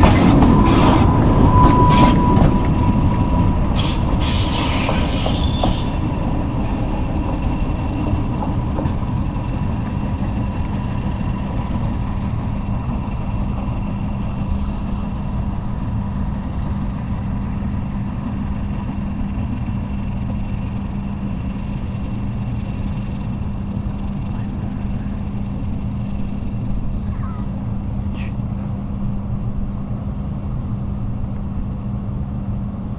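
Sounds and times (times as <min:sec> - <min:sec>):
steady low rumble and hum: 0:00.0 - 0:32.9.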